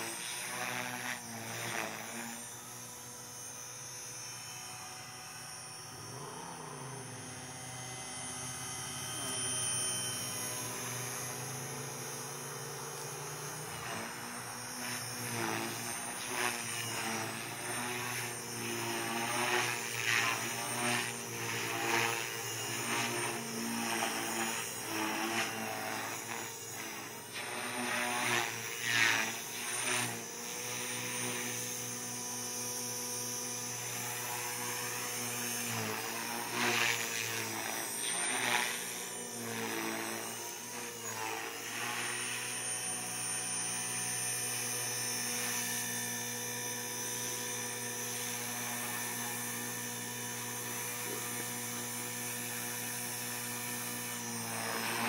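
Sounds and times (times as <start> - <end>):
model helicopter motor whine: 0.0 - 55.0.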